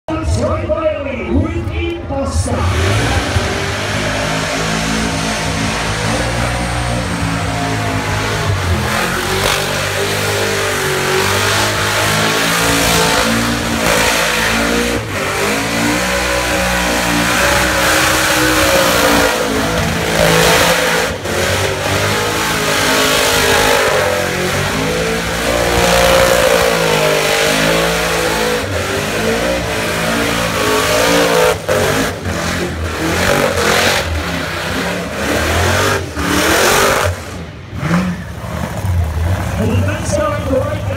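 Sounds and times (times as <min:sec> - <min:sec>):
supercharged vee eight engine revving: 0:02.3 - 0:40.9.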